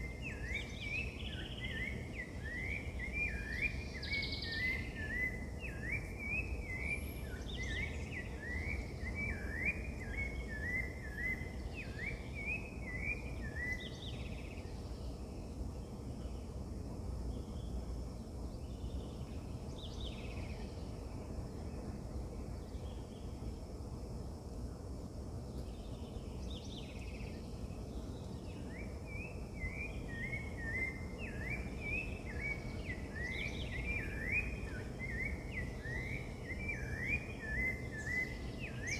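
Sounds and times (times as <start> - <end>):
wild birds chirping: 0.0 - 38.9.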